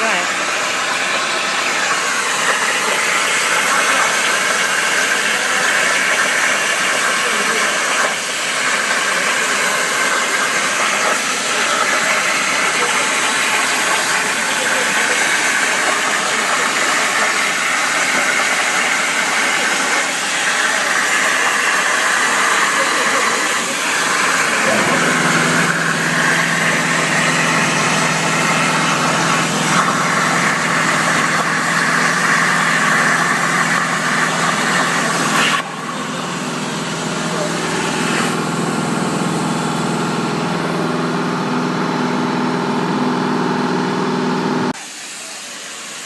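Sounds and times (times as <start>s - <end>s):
plasma torch hissing: 0.0s - 38.4s
low machine hum: 0.0s - 44.8s.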